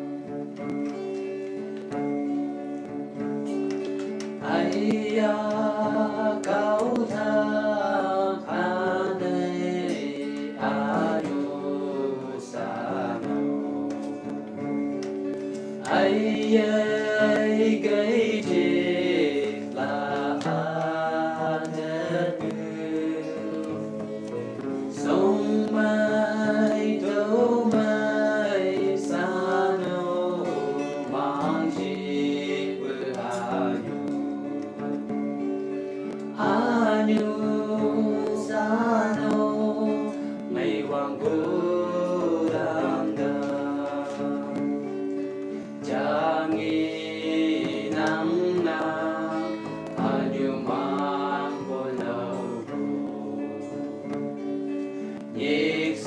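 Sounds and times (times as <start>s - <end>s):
plucked guitar: 0.0s - 56.0s
person singing: 3.5s - 56.0s.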